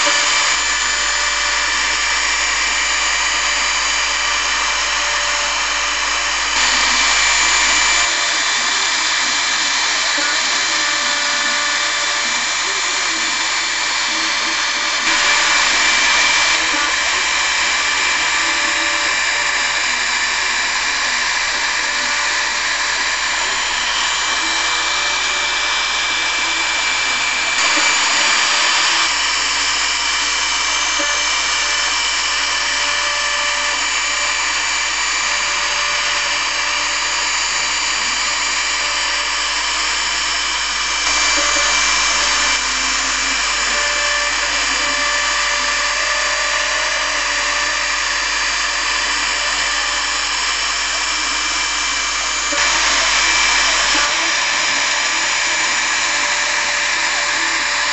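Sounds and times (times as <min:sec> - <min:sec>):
bit cutting wood hiss: 0:00.0 - 0:57.9
router spindle high whine: 0:00.0 - 0:57.9.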